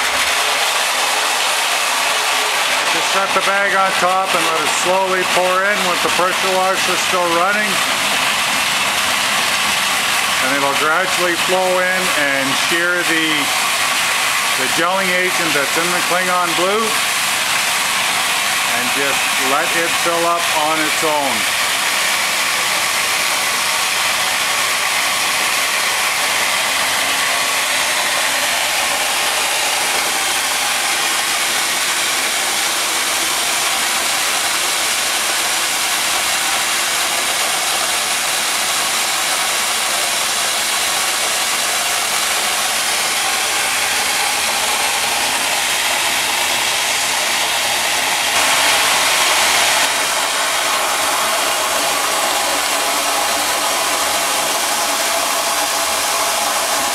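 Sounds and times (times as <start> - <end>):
pressure washer jetting into water: 0.0 - 56.9.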